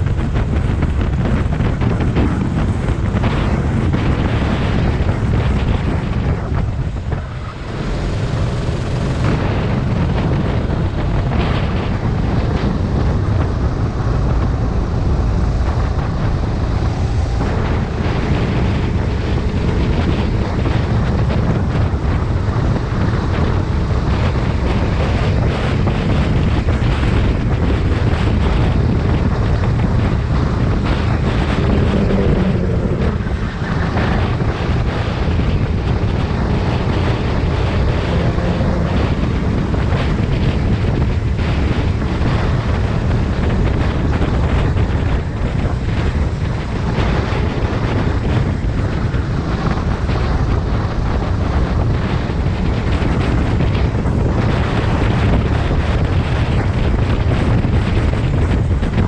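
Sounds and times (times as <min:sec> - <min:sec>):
kart engine running: 0:00.0 - 0:59.0
wind noise on microphone: 0:00.0 - 0:59.0.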